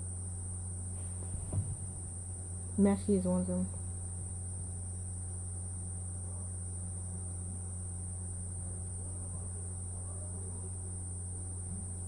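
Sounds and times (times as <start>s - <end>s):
electrical mains hum: 0.0s - 12.0s
faint high-pitched whine: 0.0s - 12.0s.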